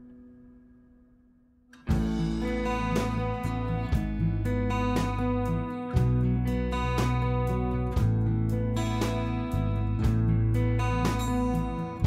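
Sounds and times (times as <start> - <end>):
strummed guitar: 0.0 - 12.0
steady low bass: 1.9 - 12.0.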